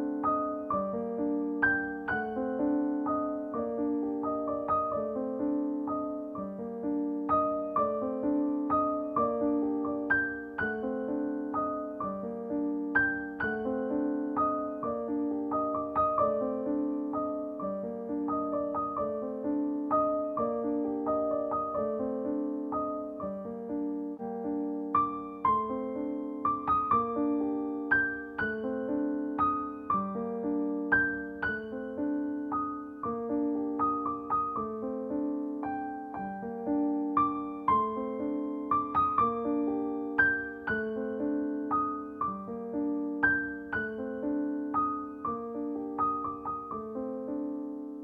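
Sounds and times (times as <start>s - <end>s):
solo piano music: 0.0s - 48.0s.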